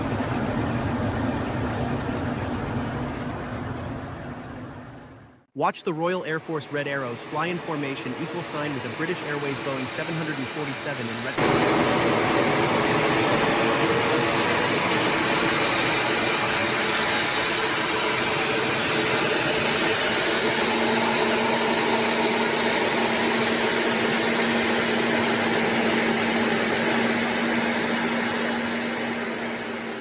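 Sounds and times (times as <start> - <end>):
steady low hum: 0.0 - 30.0
jet engine noise: 5.8 - 30.0.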